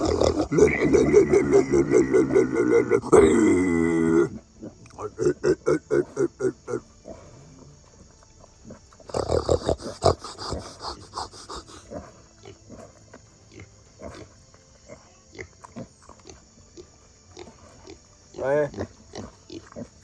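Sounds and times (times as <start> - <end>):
pigs grunting: 0.0 - 20.0.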